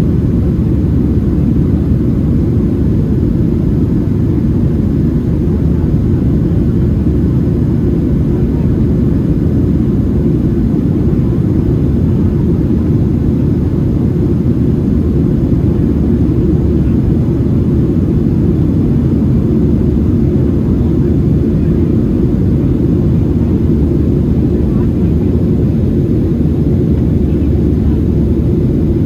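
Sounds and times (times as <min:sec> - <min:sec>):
airplane cabin engine roar: 0:00.0 - 0:29.0.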